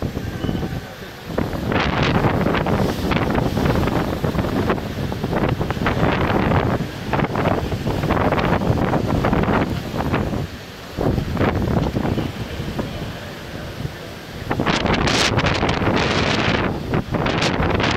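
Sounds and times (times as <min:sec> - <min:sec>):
rough sea waves surging: 0:00.0 - 0:17.9
wind buffeting microphone: 0:00.0 - 0:17.9.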